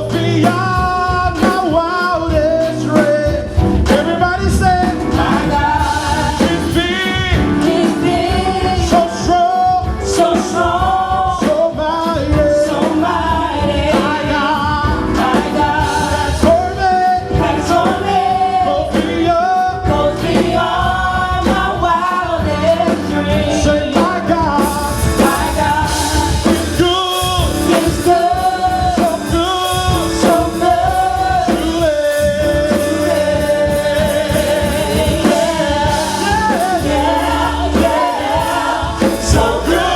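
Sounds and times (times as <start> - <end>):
lead singing: 0.0 - 39.9
rock band drums and guitar: 0.0 - 39.9.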